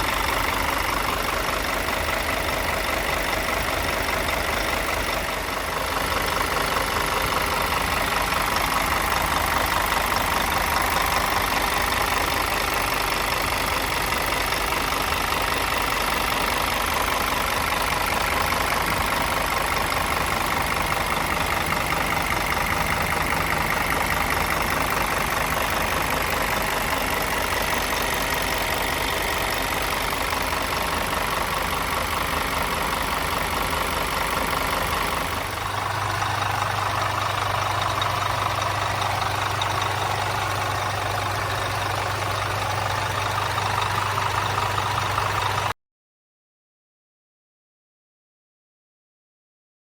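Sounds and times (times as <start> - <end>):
diesel engine idling: 0.0 - 45.8.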